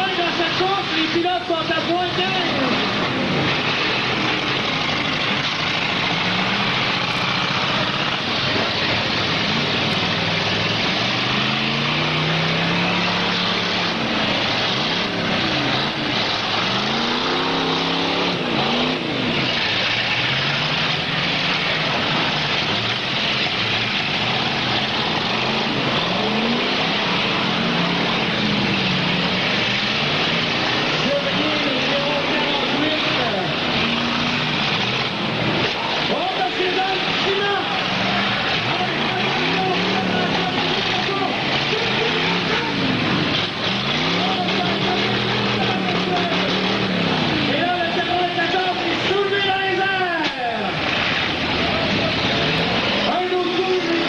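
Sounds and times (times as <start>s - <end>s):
car engines revving: 0.0s - 54.0s
steady wash of noise: 0.0s - 54.0s.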